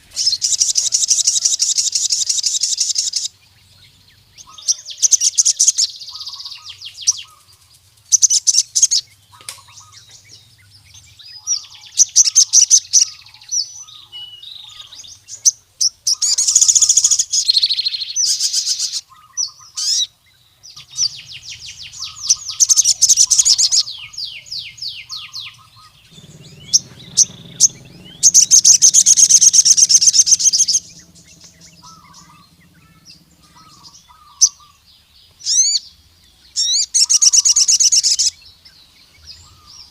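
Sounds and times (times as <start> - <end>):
bird singing high-pitched trills: 0.0 - 39.9.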